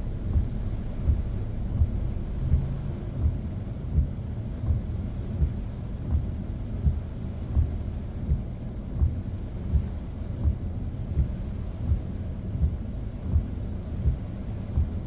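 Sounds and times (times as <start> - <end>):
heavy rain on a car: 0.0 - 15.0.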